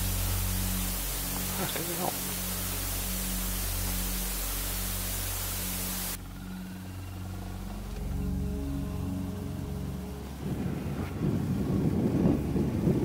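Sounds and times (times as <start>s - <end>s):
wind hiss on microphone: 0.0s - 13.0s.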